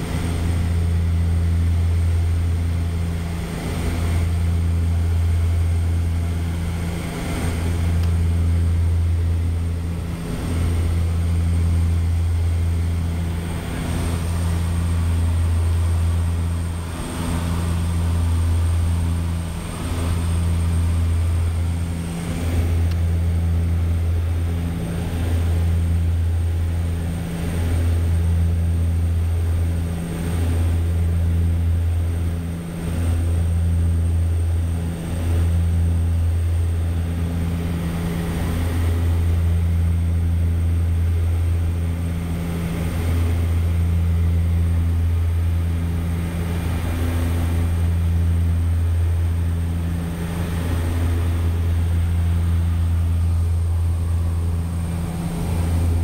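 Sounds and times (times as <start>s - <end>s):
propeller engines droning: 0.0s - 56.0s.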